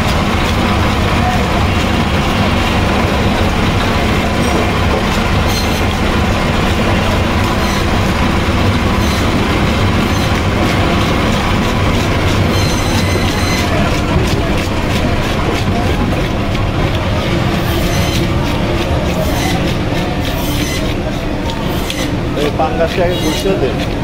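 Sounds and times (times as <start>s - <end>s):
electric fish scaler running: 0.0s - 24.0s.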